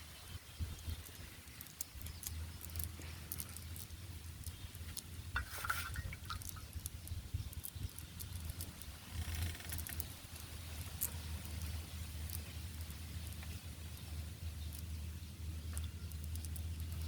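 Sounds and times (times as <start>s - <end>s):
steady low rumble: 0.0s - 17.0s
water patter and dripping: 0.6s - 17.0s
small clicks: 0.8s - 14.9s, 15.7s - 17.0s.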